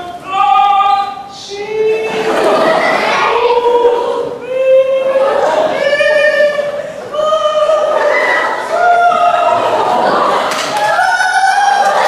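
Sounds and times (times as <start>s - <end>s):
group of voices singing: 0.0s - 10.5s.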